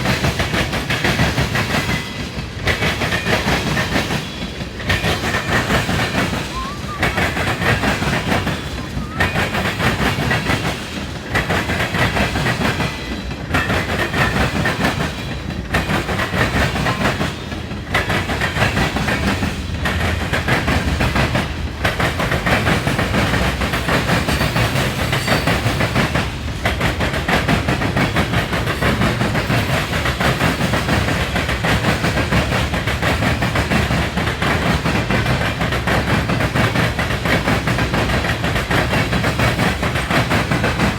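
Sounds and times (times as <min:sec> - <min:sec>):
wheels clattering over rail joints: 0:00.0 - 0:40.9.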